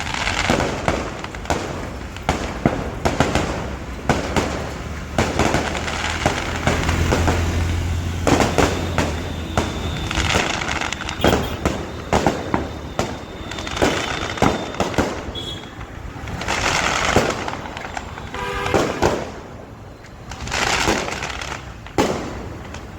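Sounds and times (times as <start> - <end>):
continuous crackling: 0.0 - 22.9
firecrackers banging: 0.0 - 22.9.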